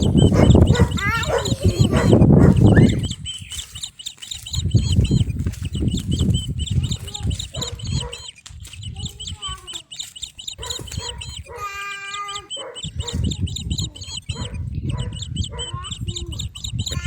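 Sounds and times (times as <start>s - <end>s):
bird chirping high notes: 0.0s - 17.0s.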